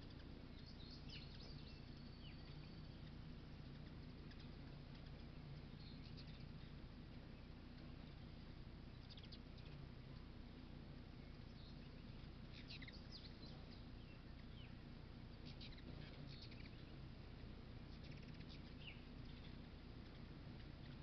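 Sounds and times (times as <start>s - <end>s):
hummingbirds chittering: 0.0s - 21.0s
low background noise: 0.0s - 21.0s.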